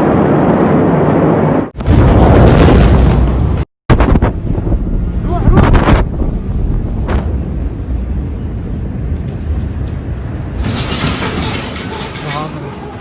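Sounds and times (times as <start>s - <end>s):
low rumbling buffeting noise: 0.0s - 11.7s.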